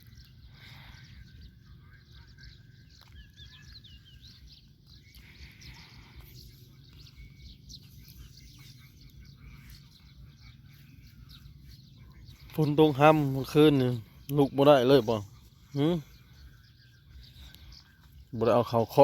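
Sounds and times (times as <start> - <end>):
steady low rumble: 0.0 - 14.6, 15.2 - 18.4
birds chirping and warbling: 0.0 - 19.0.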